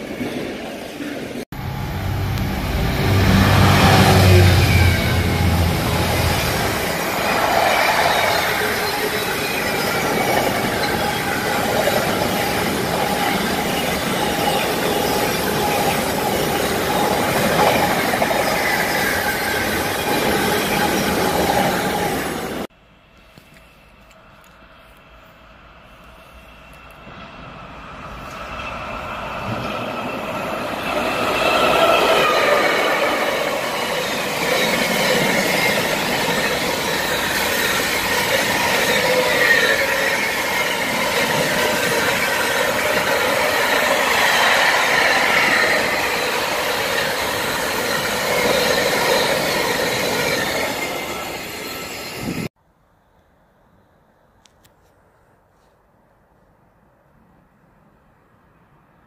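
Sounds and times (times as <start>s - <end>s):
freight train wheels rumbling: 0.0s - 52.5s.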